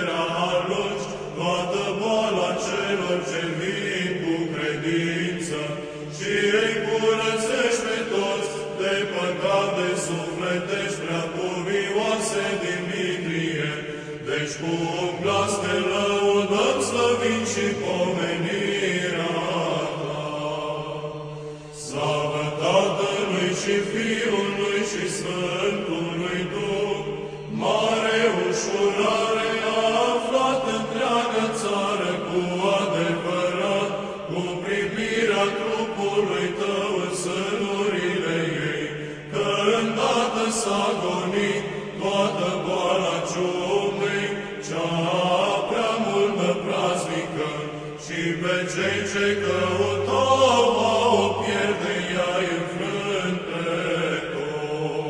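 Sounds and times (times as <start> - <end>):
chanting vocal melody: 0.0 - 55.0
low held vocal drone: 0.0 - 55.0.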